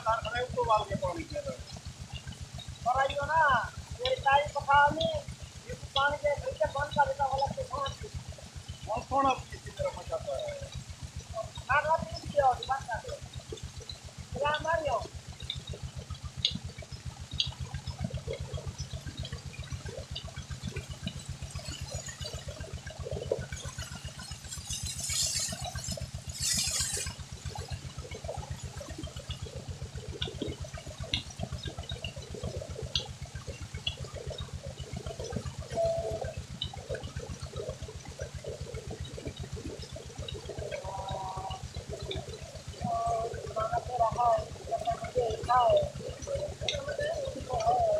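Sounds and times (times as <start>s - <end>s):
pump engine thudding: 0.0s - 42.5s
water gushing and splashing: 0.0s - 47.9s.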